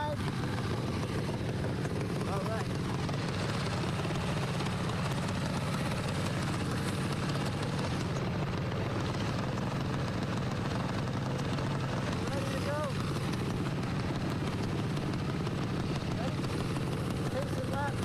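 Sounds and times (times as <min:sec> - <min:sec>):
lawnmower engines droning: 0:00.0 - 0:18.0.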